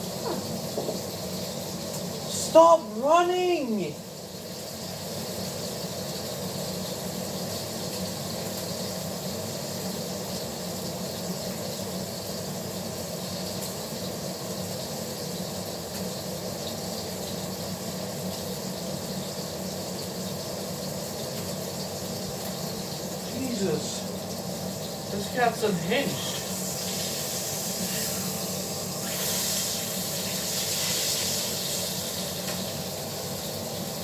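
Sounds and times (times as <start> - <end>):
steak sizzling in a frying pan: 0.0 - 34.0.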